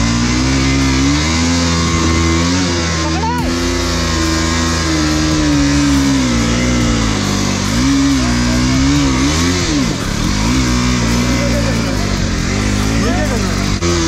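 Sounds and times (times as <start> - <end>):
background music: 0.0 - 14.0
motorcycle engine revving: 0.0 - 14.0.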